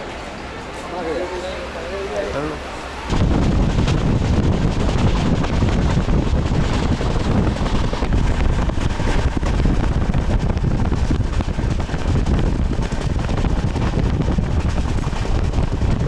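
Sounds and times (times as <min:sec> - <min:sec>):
train rumbling: 0:00.0 - 0:16.0
wind buffeting microphone: 0:02.8 - 0:16.0.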